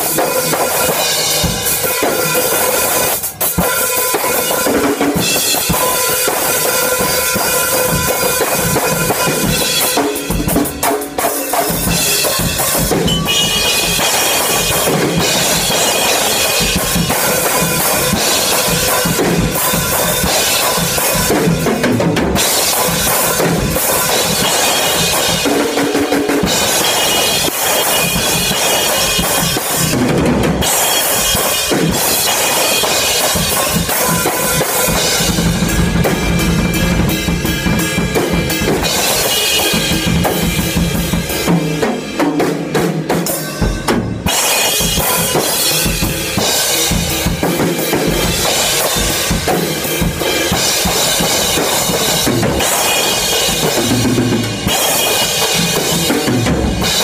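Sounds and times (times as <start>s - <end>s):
drum kit playing: 0.0s - 57.0s.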